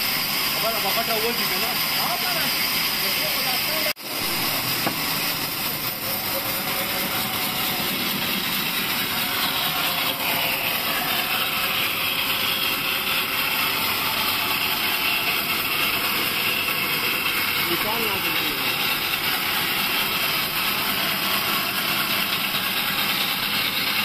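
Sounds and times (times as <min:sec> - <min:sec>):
band saw cutting wood: 0:00.0 - 0:24.0
high hiss: 0:00.0 - 0:24.0.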